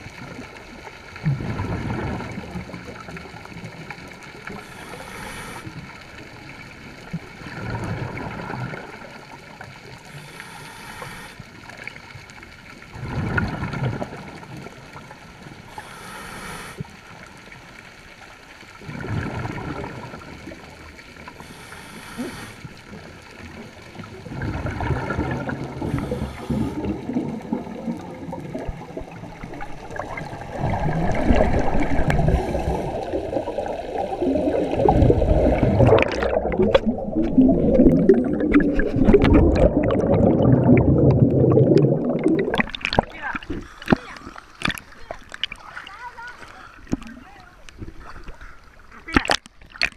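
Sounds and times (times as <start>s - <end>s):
underwater water rushing and bubbling: 0.0s - 49.9s.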